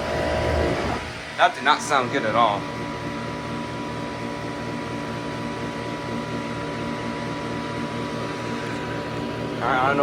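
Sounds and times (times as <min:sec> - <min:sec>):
heat pump humming: 0:00.0 - 0:10.0.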